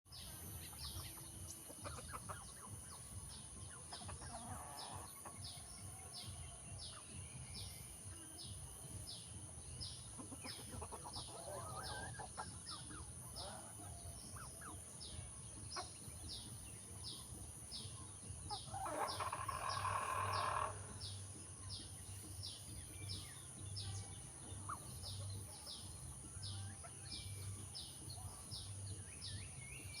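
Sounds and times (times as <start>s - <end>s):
chick peeping: 0.6s - 7.2s, 9.4s - 23.3s, 24.1s - 29.0s.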